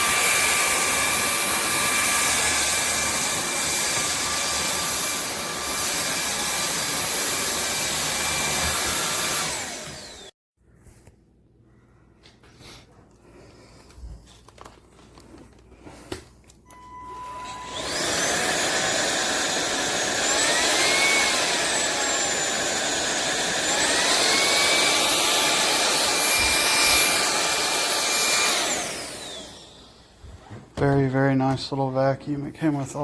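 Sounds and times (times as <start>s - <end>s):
vacuum motor whining: 0.0s - 10.3s, 14.6s - 31.1s.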